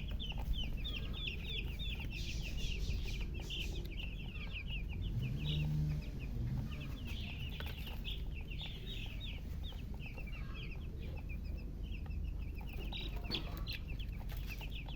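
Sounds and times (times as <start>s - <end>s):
chicks chirping: 0.0s - 14.9s.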